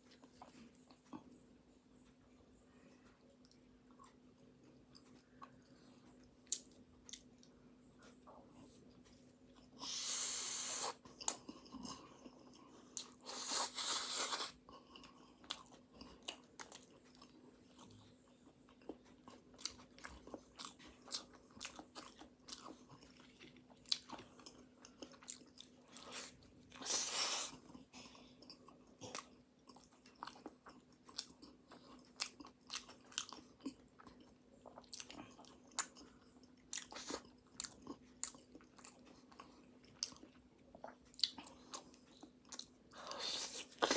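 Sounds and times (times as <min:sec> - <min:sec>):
chewing flaky pastry: 0:00.0 - 0:43.9.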